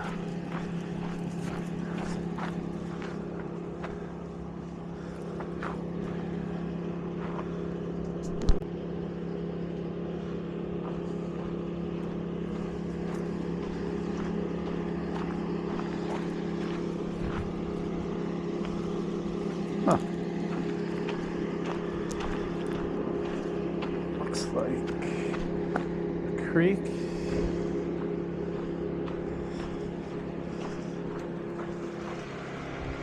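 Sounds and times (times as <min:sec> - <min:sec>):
wood chipper engine droning: 0:00.0 - 0:33.0.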